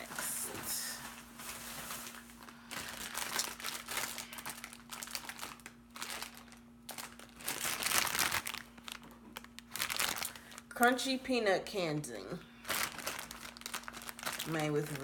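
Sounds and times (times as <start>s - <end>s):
plastic wrapper crinkling: 0.0s - 11.1s, 12.5s - 15.0s.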